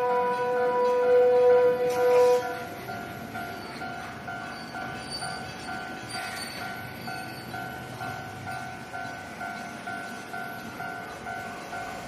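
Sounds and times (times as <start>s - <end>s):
level-crossing warning bell: 0.0s - 12.0s
tram running on track: 0.0s - 12.0s.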